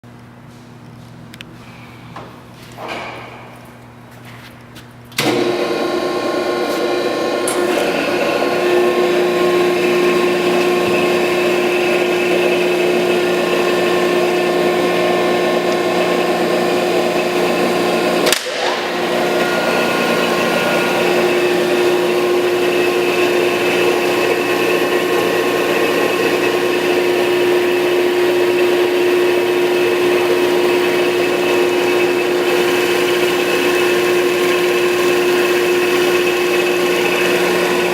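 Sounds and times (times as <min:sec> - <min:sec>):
grinder motor whirring: 0:05.2 - 0:37.9.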